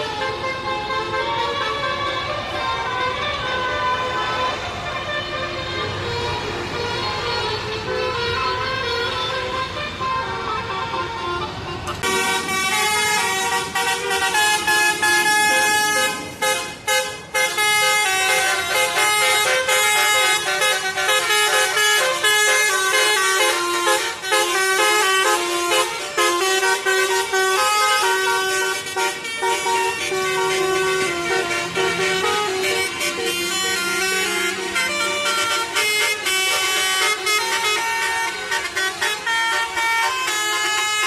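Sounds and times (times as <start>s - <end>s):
multi-tone musical horn melody: 0.0s - 41.0s.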